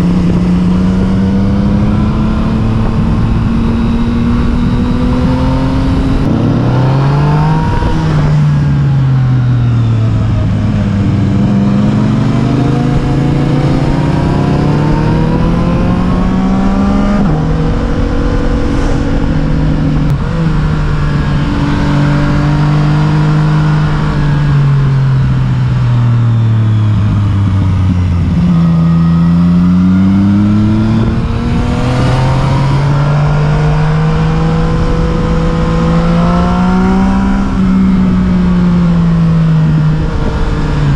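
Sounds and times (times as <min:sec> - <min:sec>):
vehicle engine driving: 0:00.0 - 0:40.9.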